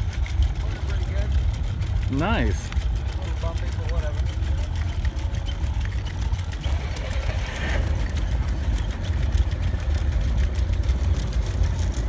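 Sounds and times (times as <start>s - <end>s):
fine clatter of small clicks: 0.0s - 12.0s
steady low rumble: 0.0s - 12.0s.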